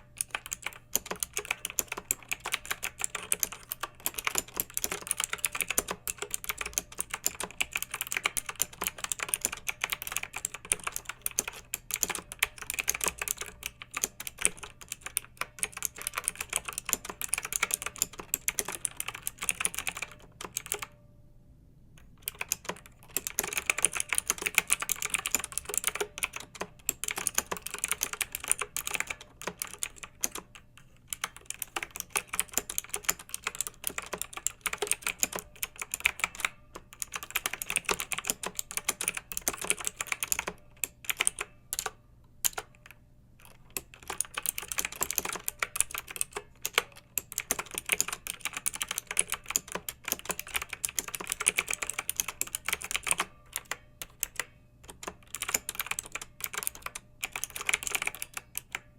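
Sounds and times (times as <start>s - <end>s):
mechanical keyboard typing: 0.0s - 21.0s, 22.0s - 58.9s.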